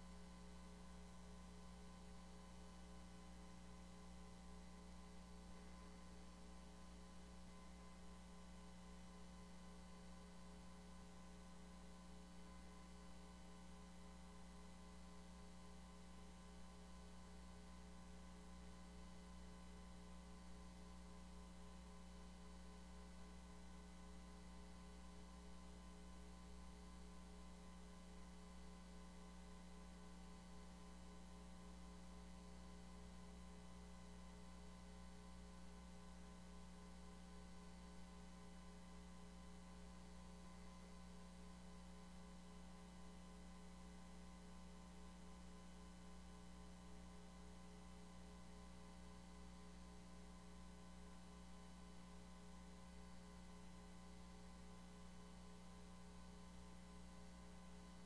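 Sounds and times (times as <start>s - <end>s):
faint electrical hum and hiss: 0.0s - 58.0s.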